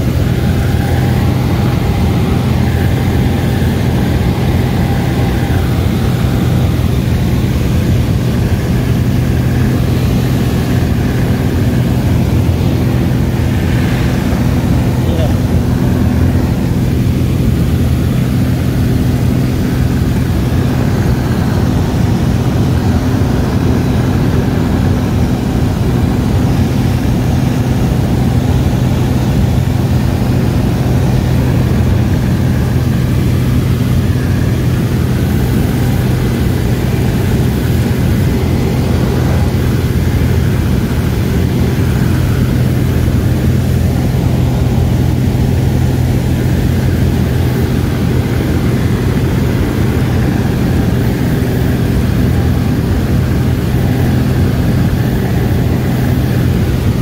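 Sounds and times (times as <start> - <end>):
aircraft engine drone in cabin: 0.0 - 57.0.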